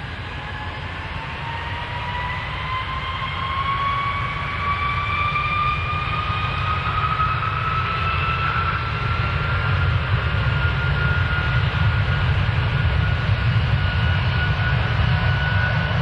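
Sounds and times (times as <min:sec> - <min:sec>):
jet engines spooling up: 0:00.0 - 0:16.0.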